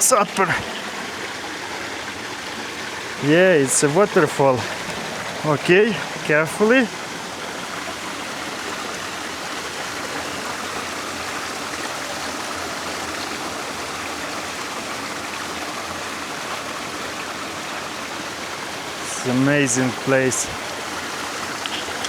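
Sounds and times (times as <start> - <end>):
waterfall rushing and splashing: 0.0 - 22.0.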